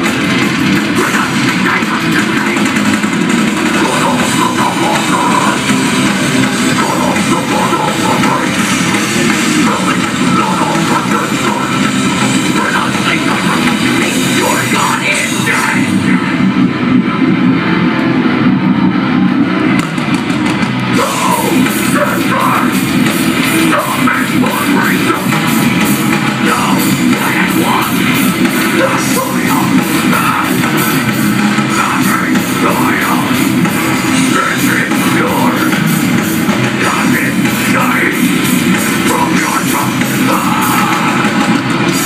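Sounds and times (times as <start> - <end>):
distorted guitars: 0.0 - 42.0
drums: 0.0 - 42.0.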